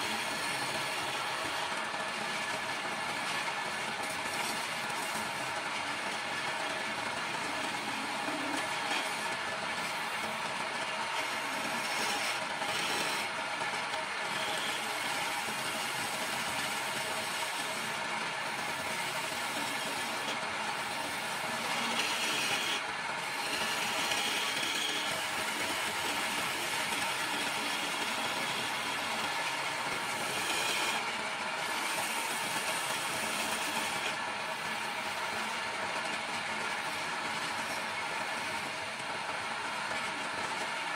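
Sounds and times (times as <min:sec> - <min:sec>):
gouge scraping spinning wood: 0:00.0 - 0:40.9
lathe motor hum: 0:00.0 - 0:40.9.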